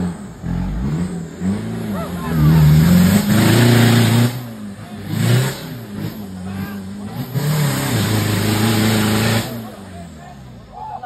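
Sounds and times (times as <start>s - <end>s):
engine revving hard: 0.0s - 10.0s.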